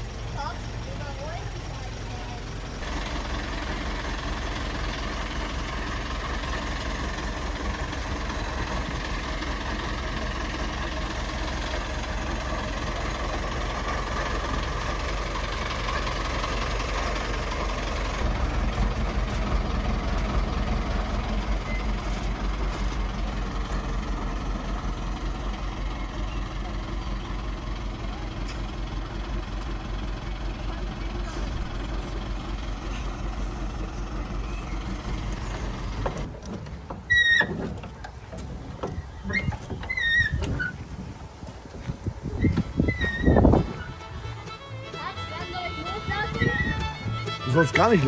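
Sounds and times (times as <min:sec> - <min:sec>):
diesel truck engine rumbling: 0:00.0 - 0:48.0.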